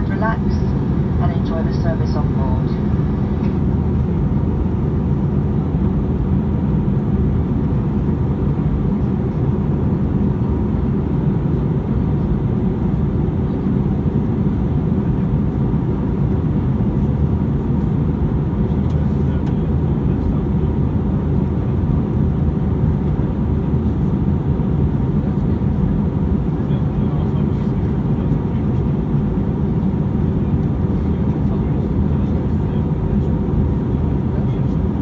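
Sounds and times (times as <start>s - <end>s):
airplane cabin engine drone: 0.0s - 35.0s.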